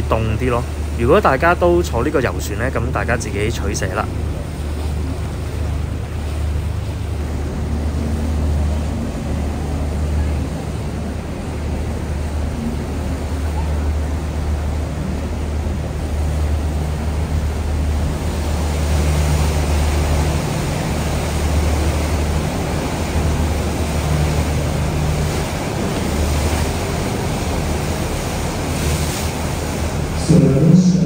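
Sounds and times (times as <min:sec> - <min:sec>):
boat engine drone: 0:00.0 - 0:31.0
water rushing past: 0:00.0 - 0:31.0
wind: 0:00.0 - 0:31.0.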